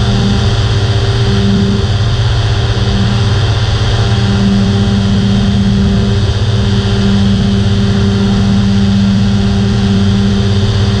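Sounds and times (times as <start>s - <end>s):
aircraft engine droning: 0.0s - 11.0s.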